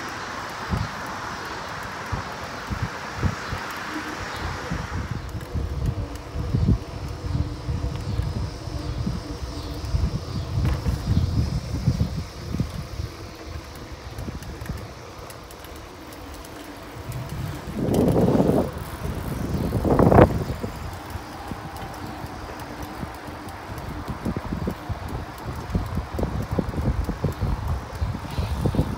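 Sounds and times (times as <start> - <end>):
tyres rolling on pavement: 0.0 - 28.9
wind rumbling on microphone: 0.0 - 28.9.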